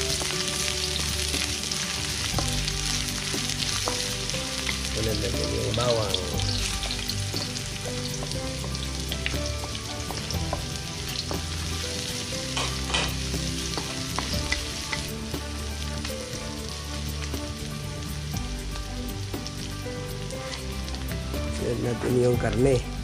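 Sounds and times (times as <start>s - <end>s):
onion and garlic sizzling in oil: 0.0s - 23.0s.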